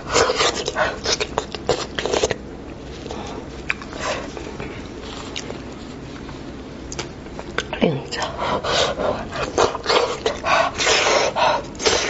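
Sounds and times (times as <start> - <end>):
wet chewing and smacking: 0.1 - 8.3, 9.3 - 12.0.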